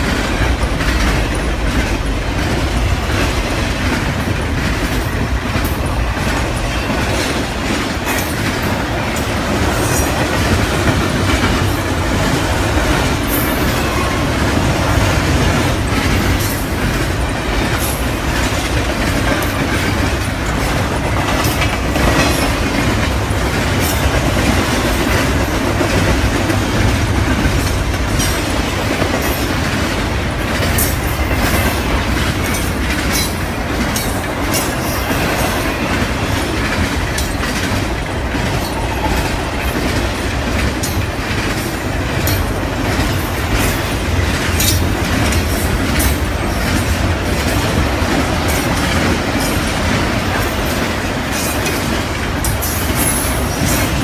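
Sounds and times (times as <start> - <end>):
freight train rumbling past: 0.0 - 54.0
wheels clattering over rail joints: 0.0 - 54.0.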